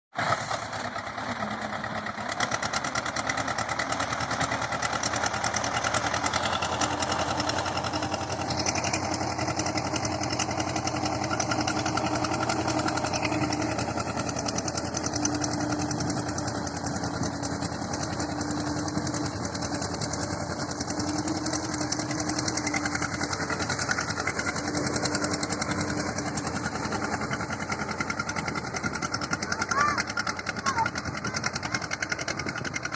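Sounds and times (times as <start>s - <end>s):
tractor engine running: 0.2s - 32.9s.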